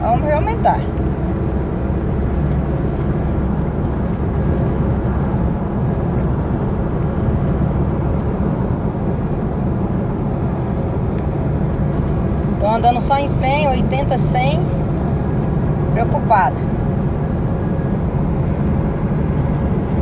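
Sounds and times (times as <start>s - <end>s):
low rumbling from truck: 0.0s - 20.0s
pickup truck engine and road drone: 0.0s - 20.0s.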